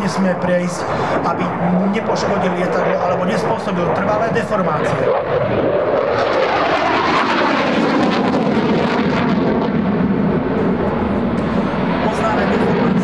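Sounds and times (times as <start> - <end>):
jet flying overhead: 0.0 - 13.0.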